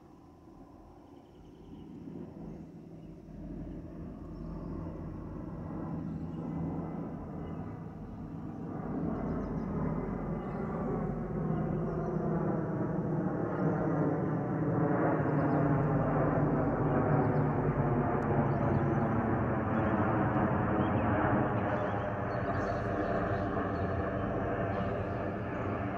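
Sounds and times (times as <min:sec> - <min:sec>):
jet airliner roaring overhead: 0:01.9 - 0:25.9.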